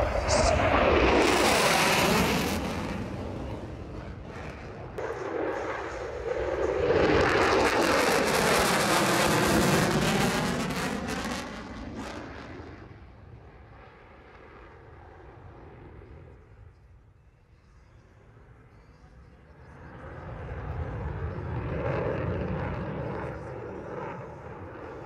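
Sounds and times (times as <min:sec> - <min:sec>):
jet aircraft flying past: 0:00.0 - 0:16.8, 0:19.4 - 0:25.0.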